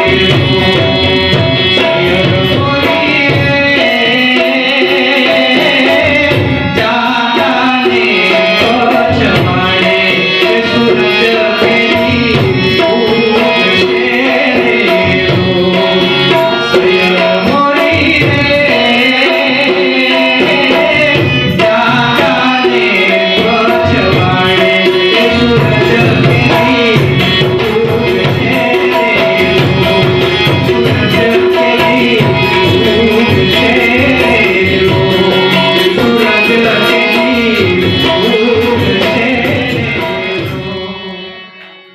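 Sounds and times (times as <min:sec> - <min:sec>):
harmonium: 0:00.0 - 0:41.9
man singing: 0:00.0 - 0:41.9
tabla rhythm: 0:00.0 - 0:41.9.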